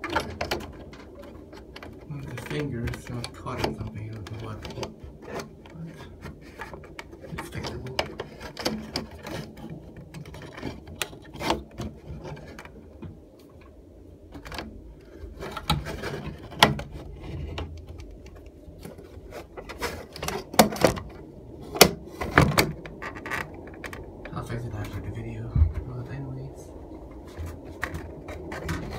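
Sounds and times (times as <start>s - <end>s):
clicks and rubbing knocks: 0.0s - 26.2s, 26.8s - 28.9s
exhaust fan humming: 0.0s - 28.9s.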